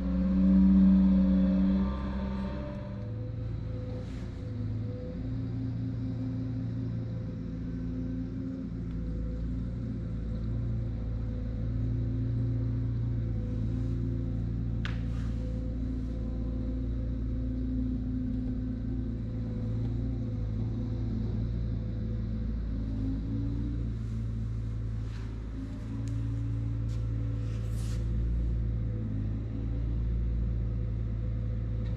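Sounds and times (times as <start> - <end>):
skid steer engine running: 0.0 - 31.9.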